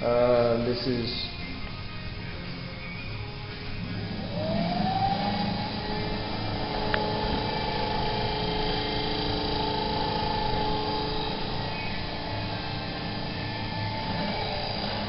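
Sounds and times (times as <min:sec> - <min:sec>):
electric motor whine: 0:01.4 - 0:15.0.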